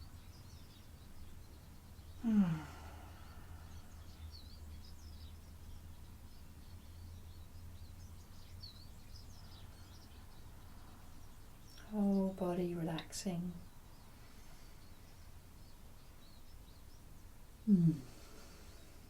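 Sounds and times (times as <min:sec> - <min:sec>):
faint birds chirping: 0:00.0 - 0:19.0
low steady hum: 0:00.0 - 0:19.0.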